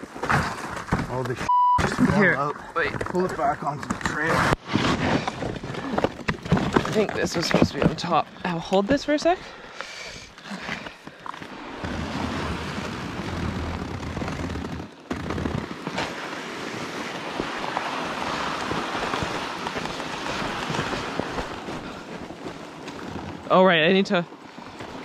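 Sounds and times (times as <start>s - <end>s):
toboggans hauled on snow: 0.0s - 25.0s.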